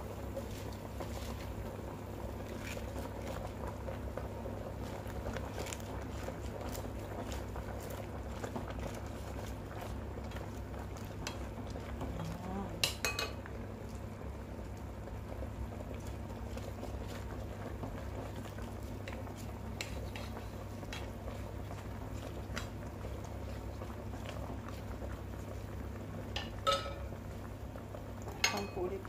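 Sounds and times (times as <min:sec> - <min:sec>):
spatula pushing leaves into broth: 0:00.2 - 0:13.4, 0:15.8 - 0:27.1.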